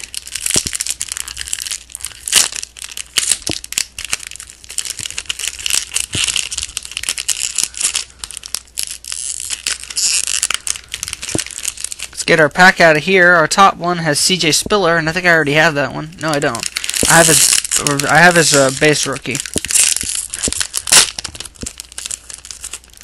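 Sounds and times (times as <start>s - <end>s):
plastic wrapper crinkling and tearing: 0.0s - 13.5s, 14.4s - 23.0s.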